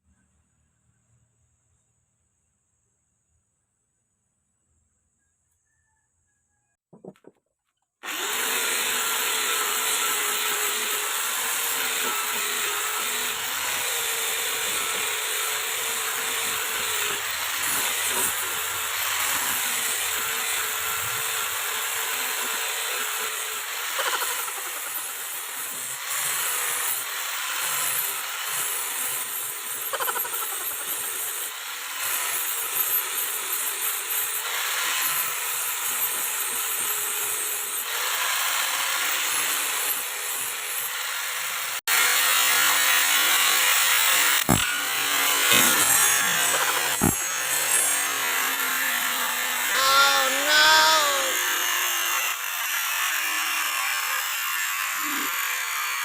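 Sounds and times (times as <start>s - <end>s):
power tool on wood: 8.0s - 56.0s.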